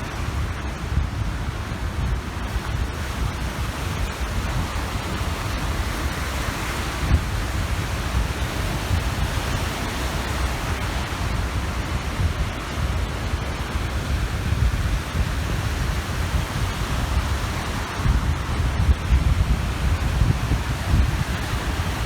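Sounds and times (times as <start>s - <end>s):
waves washing onto shore: 0.0s - 22.0s
wind rumbling on microphone: 0.0s - 22.0s.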